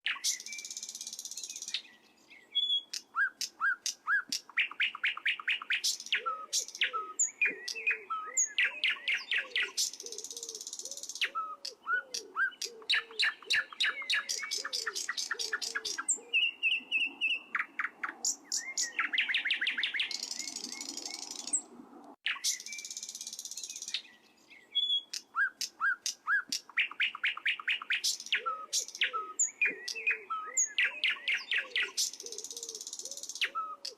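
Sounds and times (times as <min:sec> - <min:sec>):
small birds chirping and trilling: 0:00.0 - 0:33.9.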